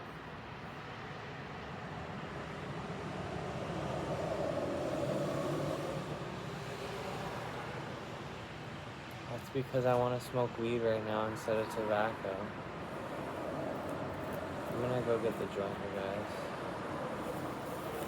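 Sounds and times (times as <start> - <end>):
steady outdoor rumble: 0.0 - 18.0.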